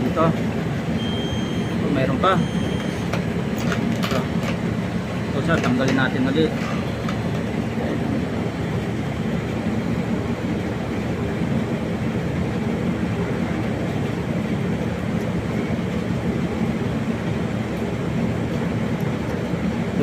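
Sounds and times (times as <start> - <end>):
rushing blown air: 0.0 - 20.0.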